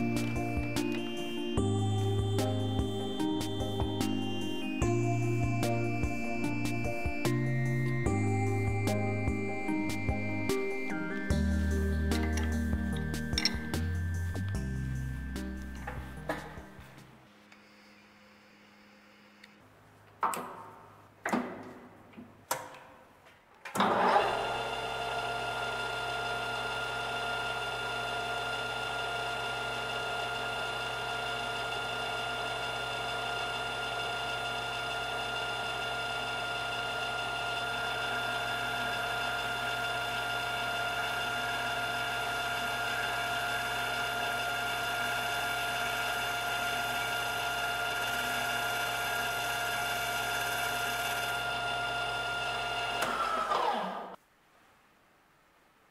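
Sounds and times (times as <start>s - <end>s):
lathe whining: 0.0s - 19.6s, 23.8s - 54.2s.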